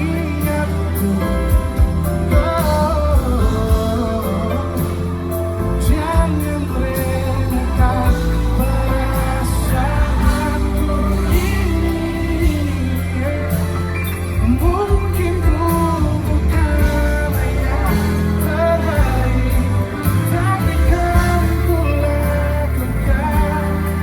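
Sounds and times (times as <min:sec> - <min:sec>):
person singing: 0:00.0 - 0:24.0
pop ballad played by band: 0:00.0 - 0:24.0.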